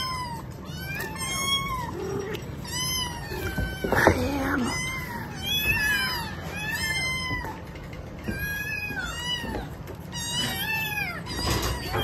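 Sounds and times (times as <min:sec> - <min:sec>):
cat meowing: 0:00.0 - 0:12.0.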